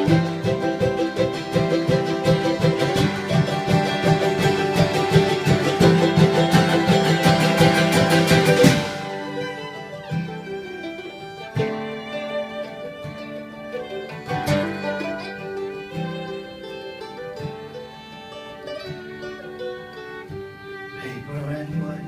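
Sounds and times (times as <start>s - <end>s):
acoustic guitar strummed and plucked: 0.0s - 22.0s
bowed fiddle melody: 0.0s - 22.0s.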